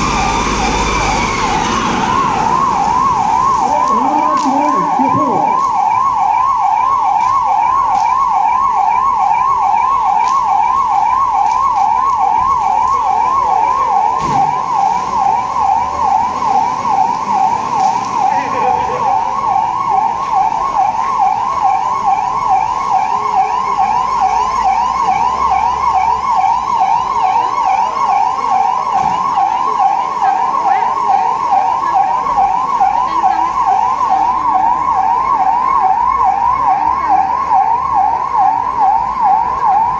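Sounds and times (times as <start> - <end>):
electronic siren warbling: 0.0 - 39.9.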